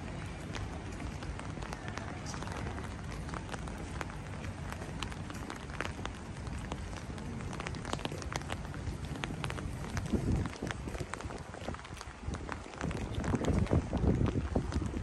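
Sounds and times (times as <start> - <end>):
low city street rumble: 0.0 - 15.0.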